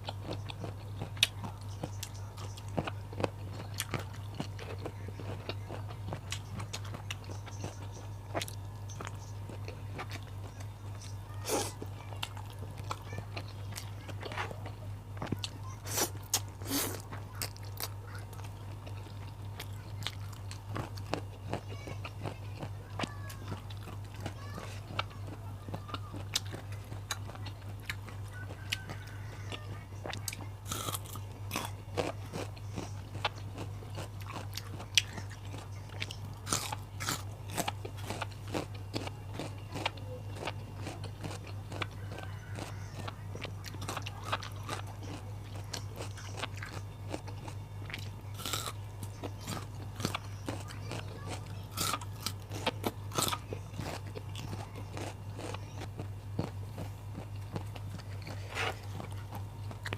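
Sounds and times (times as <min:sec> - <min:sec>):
crunching raw vegetables: 0:00.0 - 0:59.9
steady low hum: 0:00.0 - 0:59.9.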